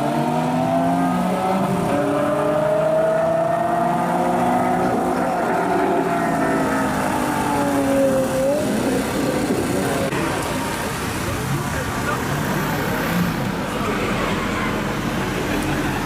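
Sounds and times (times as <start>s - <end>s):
car engine running at high revs: 0.0s - 16.0s.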